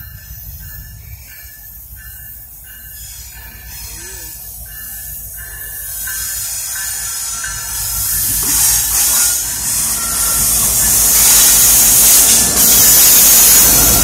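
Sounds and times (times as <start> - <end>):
diesel locomotive engine rumble: 0.0 - 14.0
locomotive bell ringing: 0.0 - 14.0.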